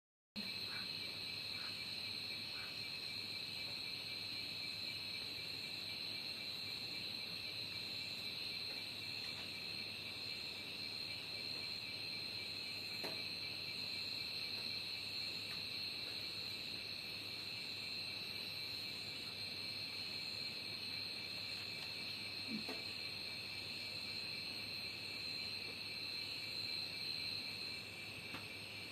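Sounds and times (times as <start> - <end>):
high-pitched insect chorus: 0.4 - 28.9.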